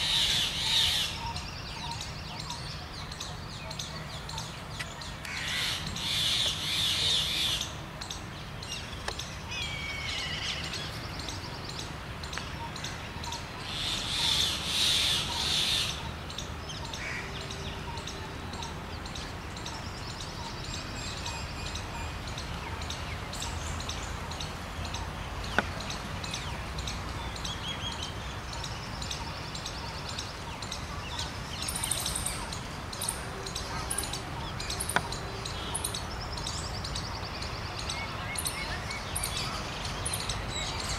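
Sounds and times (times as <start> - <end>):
birds calling: 0.0 - 40.9
outdoor background noise: 0.0 - 40.9.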